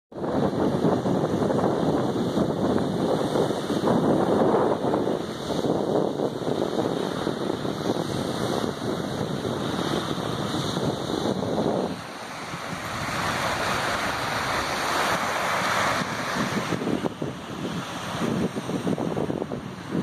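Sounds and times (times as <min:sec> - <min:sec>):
wind buffeting microphone: 0:00.1 - 0:20.0
small waves breaking on shore: 0:00.2 - 0:20.0.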